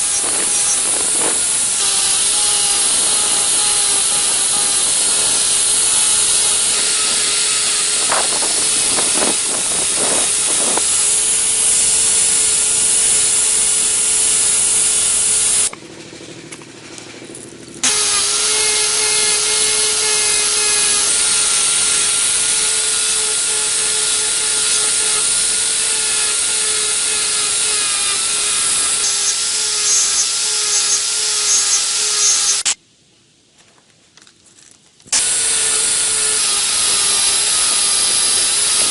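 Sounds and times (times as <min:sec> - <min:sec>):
power tool whirring: 0:00.0 - 0:15.8, 0:17.8 - 0:32.8, 0:35.1 - 0:38.9.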